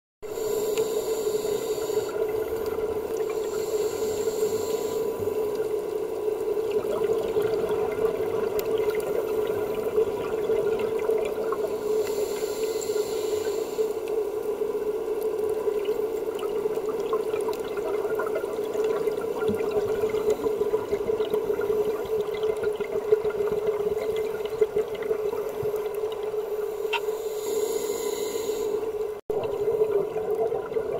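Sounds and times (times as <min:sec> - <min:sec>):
underwater hum: 0:00.2 - 0:30.9
faint clicks and crackles: 0:00.5 - 0:30.9.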